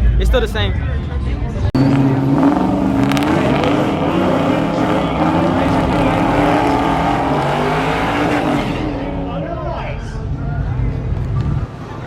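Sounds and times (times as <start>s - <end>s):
truck engine revving: 1.3s - 12.0s.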